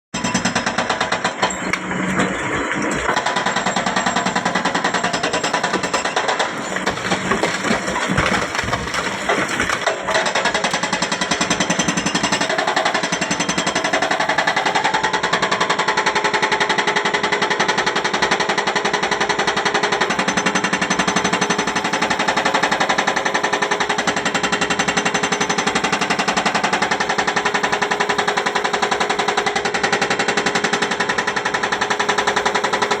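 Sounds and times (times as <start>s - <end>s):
hydraulic breaker hammering rock: 0.2s - 33.0s.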